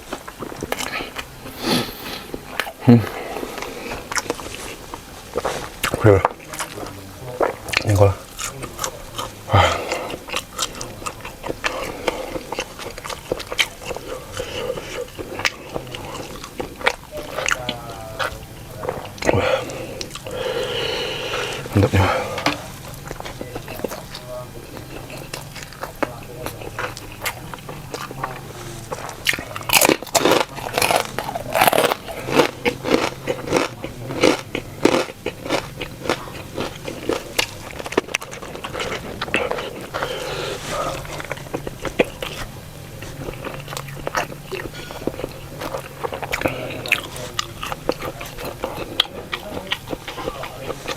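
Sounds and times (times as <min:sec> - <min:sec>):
chewing food: 0:00.0 - 0:50.9.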